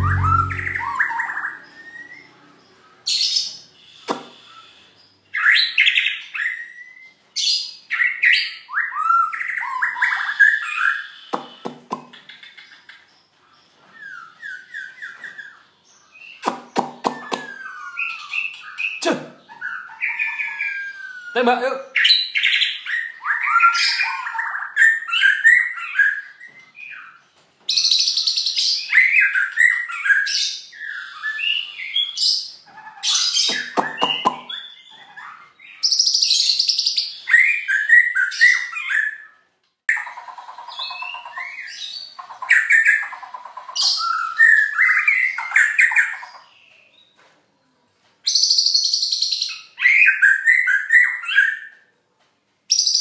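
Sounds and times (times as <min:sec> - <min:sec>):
songbird singing chirpy phrases: 0:00.0 - 0:51.8.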